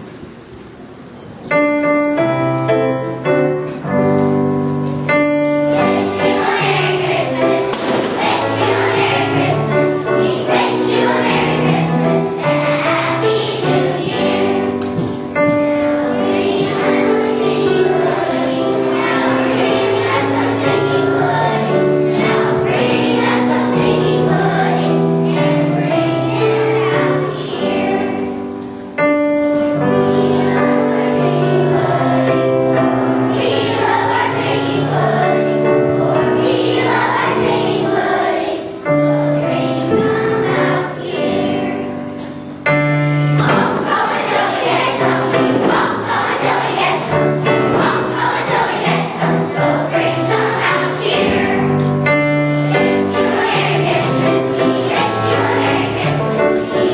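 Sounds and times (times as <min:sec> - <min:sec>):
children's choir singing: 0:00.0 - 0:56.9
musical accompaniment: 0:00.0 - 0:56.9.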